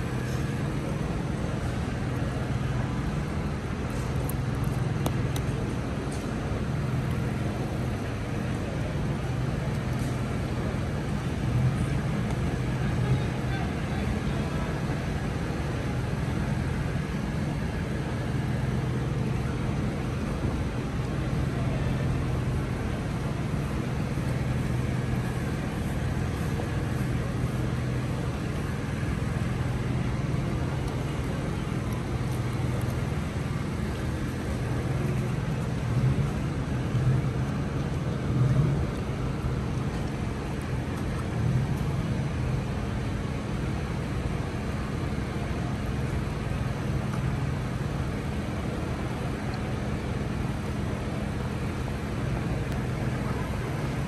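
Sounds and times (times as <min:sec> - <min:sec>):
low engine-like hum: 0:00.0 - 0:54.0
outdoor background noise: 0:00.0 - 0:54.0.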